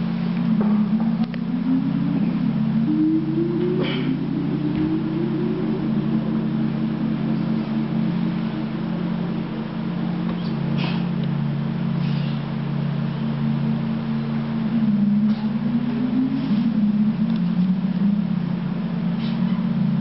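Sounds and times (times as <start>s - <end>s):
higher tone gliding upward: 0.0s - 20.0s
low droning tones: 0.0s - 20.0s.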